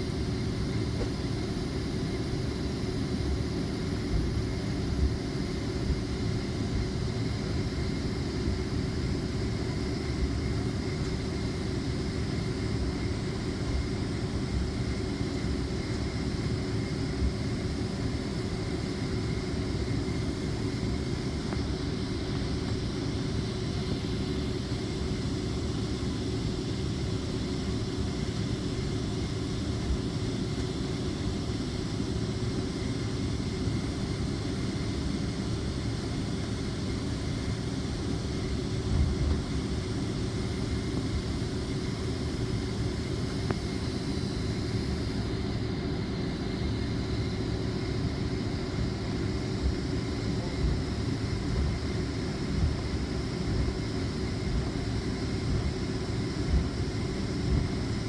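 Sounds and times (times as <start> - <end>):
air conditioning hiss: 0.0 - 58.0
jet engines rumbling in cabin: 0.0 - 58.0.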